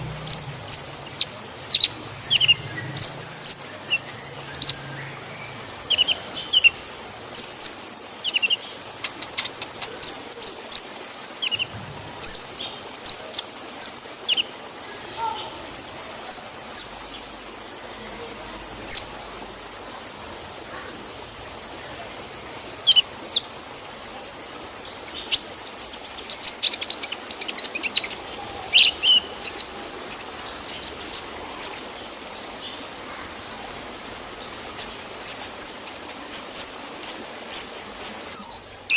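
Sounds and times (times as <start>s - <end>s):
bird chirping and twittering: 0.0s - 17.4s, 18.1s - 19.6s, 20.7s - 23.6s, 24.7s - 38.9s
faint falling water hiss: 0.0s - 38.9s.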